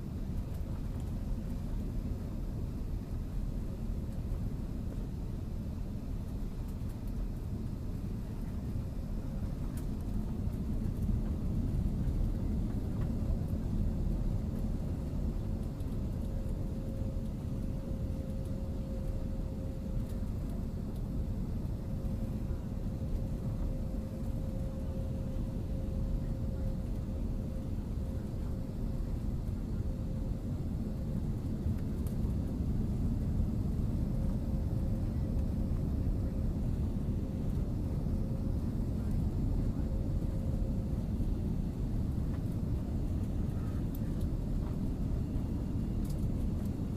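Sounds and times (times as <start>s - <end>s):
engine and airflow rumble: 0.0s - 46.9s
mid-pitched cabin hum: 7.4s - 46.9s.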